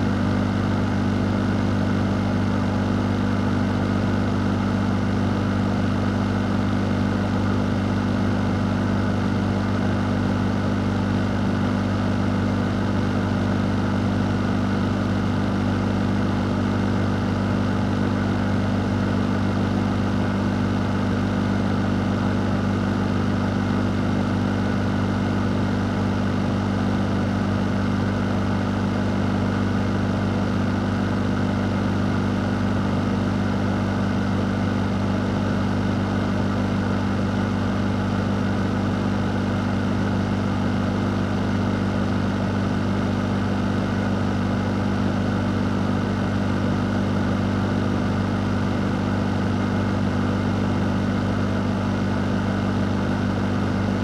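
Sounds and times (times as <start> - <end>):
fan humming with air rush: 8.0 - 54.0.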